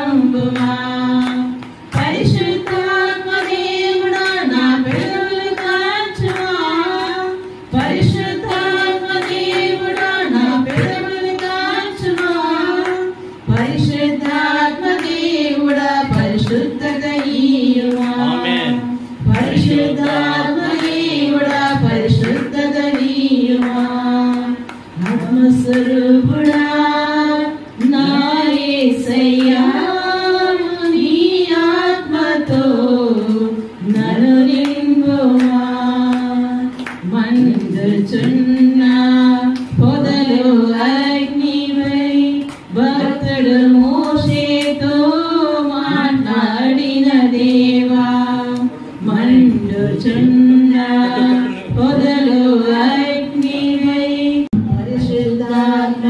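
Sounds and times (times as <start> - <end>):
women singing through microphones: 0.0 - 56.0.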